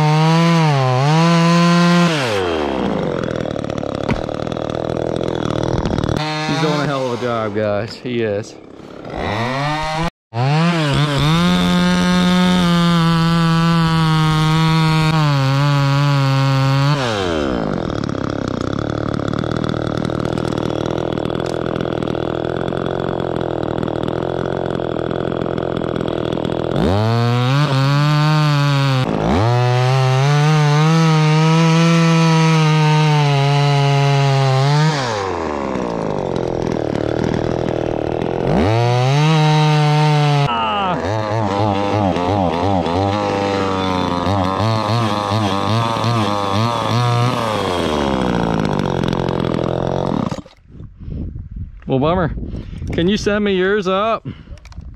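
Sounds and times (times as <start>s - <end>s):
chainsaw cutting wood: 0.0s - 50.7s.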